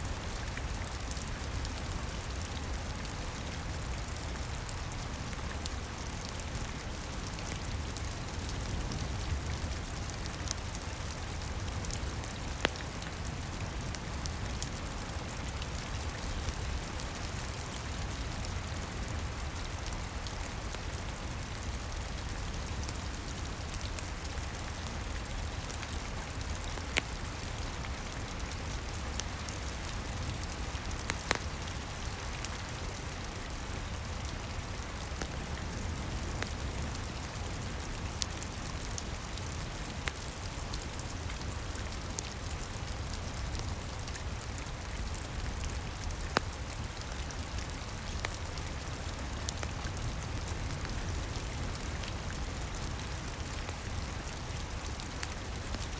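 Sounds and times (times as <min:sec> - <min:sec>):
steady rain: 0:00.0 - 0:55.9
wood fire crackling: 0:00.2 - 0:55.9.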